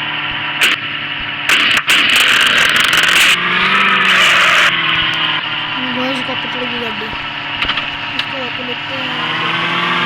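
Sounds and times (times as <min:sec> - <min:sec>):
car engine running: 0:00.0 - 0:10.0
loud rough rushing noise: 0:00.1 - 0:10.0.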